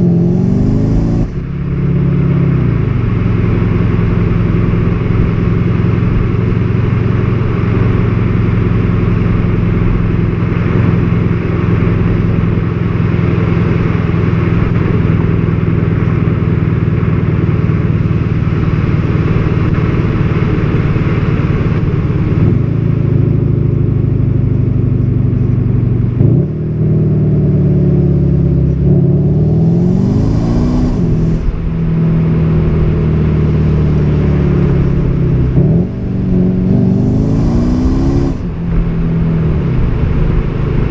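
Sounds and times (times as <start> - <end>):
diesel car engine accelerating: 0.0 - 40.9.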